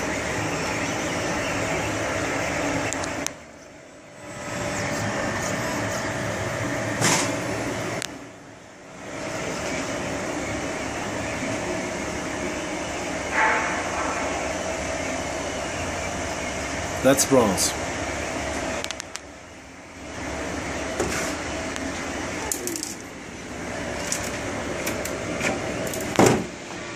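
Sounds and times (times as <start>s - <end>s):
printer motors and fans whirring: 0.0s - 26.9s.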